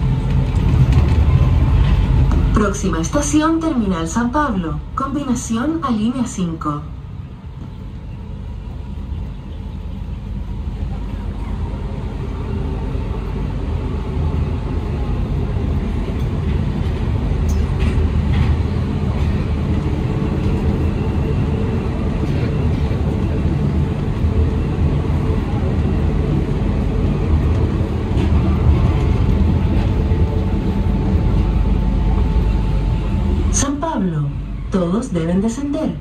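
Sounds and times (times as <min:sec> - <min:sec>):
train running in tunnel rumble: 0:00.0 - 0:36.0.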